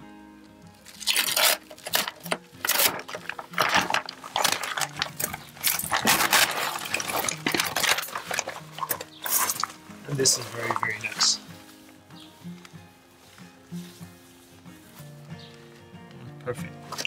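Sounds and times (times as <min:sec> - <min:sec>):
low sustained music notes: 0:00.0 - 0:16.9
plastic wrap crinkling: 0:00.7 - 0:15.2.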